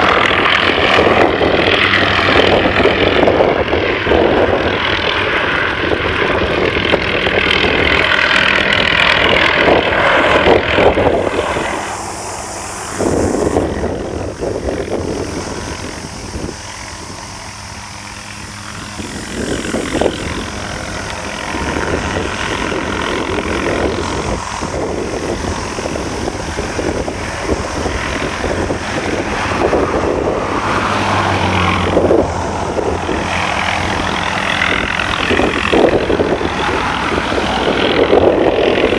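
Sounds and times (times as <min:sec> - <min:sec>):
helicopter rotor and turbine: 0:00.0 - 0:38.9.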